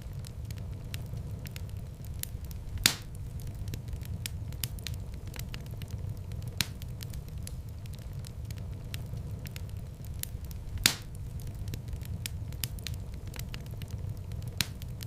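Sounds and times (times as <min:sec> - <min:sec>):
loud fire pops: 0:00.0 - 0:15.0
wood fire crackling: 0:00.0 - 0:15.0.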